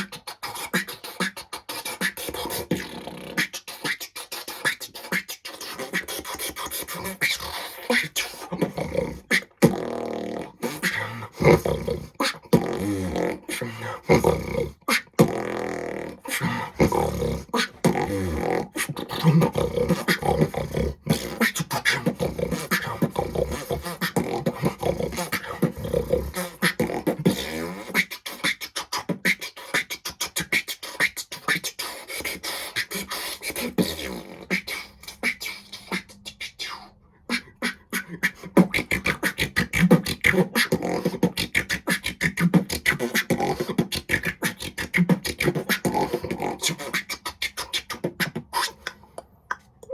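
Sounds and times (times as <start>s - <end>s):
beatboxing percussion: 0.0s - 49.9s
vocal bass line: 0.0s - 49.9s.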